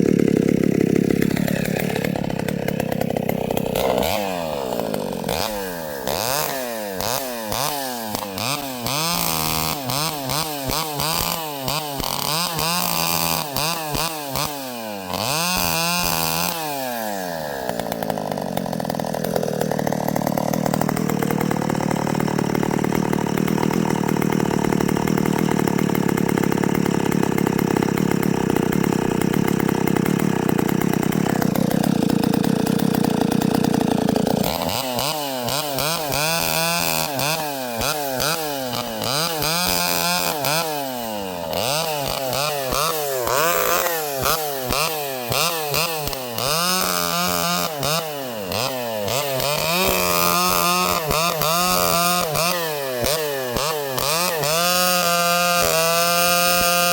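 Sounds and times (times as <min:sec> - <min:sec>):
chainsaw engine revving: 0:00.0 - 0:56.9.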